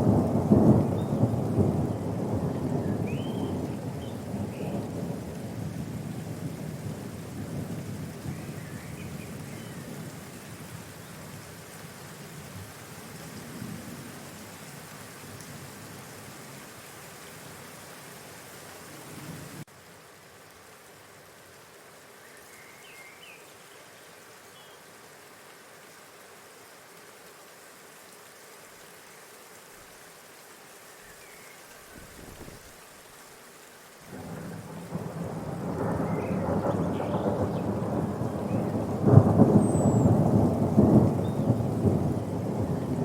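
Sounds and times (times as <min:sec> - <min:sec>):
rain hissing: 0:00.0 - 0:43.0.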